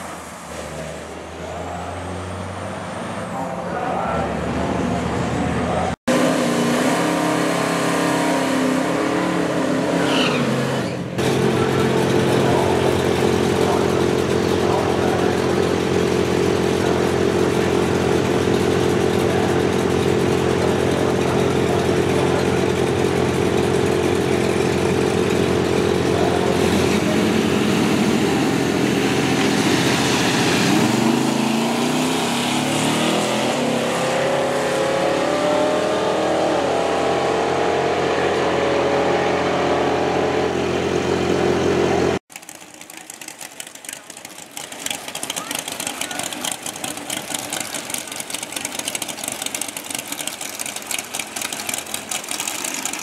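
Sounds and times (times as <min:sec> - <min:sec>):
drag racing engines revving: 0:00.0 - 0:53.0.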